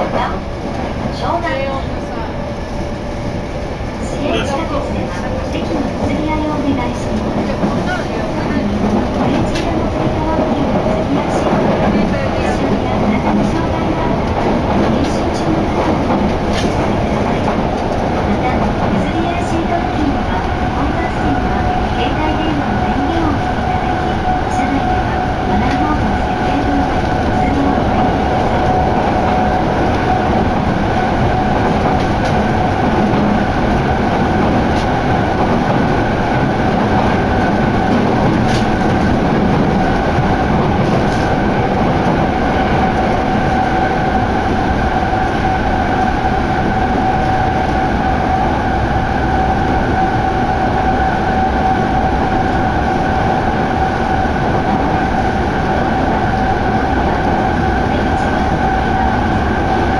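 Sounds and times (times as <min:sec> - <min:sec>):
subway train running: 0:00.0 - 0:59.9.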